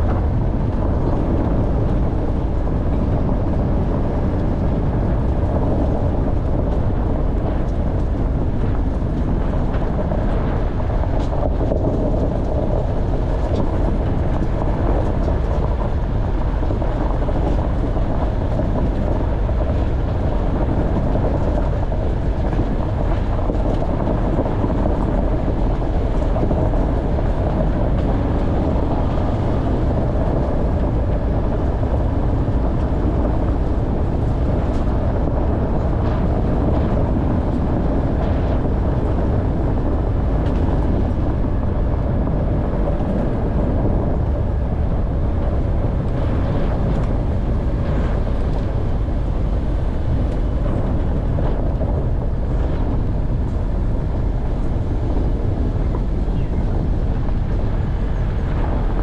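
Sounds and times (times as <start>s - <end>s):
vehicle engine and tyres rumbling: 0.0s - 59.0s.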